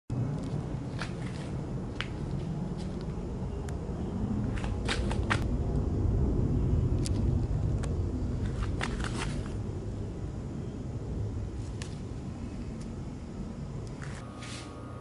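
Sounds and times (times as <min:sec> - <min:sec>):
low microphone rumble: 0:00.1 - 0:14.0.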